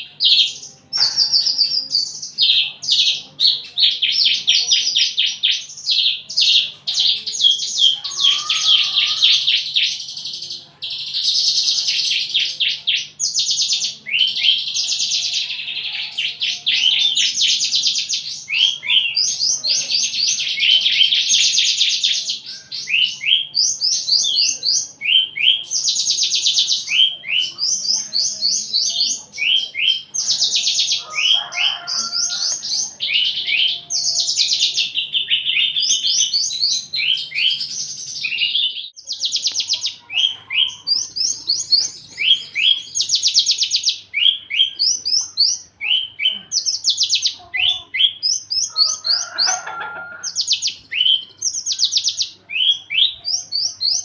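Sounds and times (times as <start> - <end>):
bird singing trilled song: 0.0 - 54.0.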